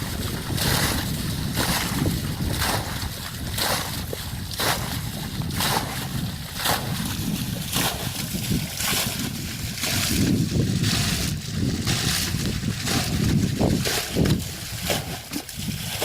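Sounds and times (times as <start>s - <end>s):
low rumble: 0.0s - 15.2s
water sloshing and splashing: 0.0s - 16.0s.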